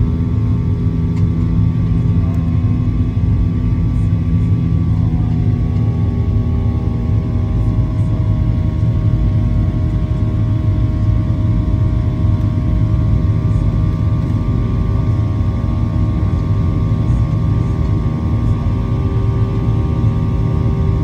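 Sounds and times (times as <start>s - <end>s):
engine humming tones: 0.0s - 21.0s
jet engine and airflow roar: 0.0s - 21.0s.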